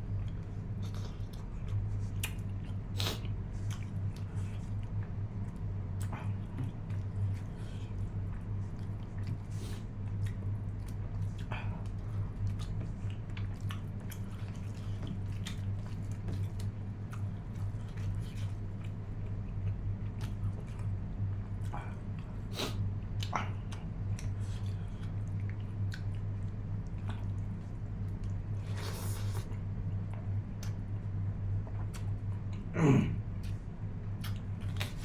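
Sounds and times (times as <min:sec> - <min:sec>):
steady low hum: 0:00.0 - 0:35.0
chewing and biting: 0:00.2 - 0:30.9, 0:34.2 - 0:35.0.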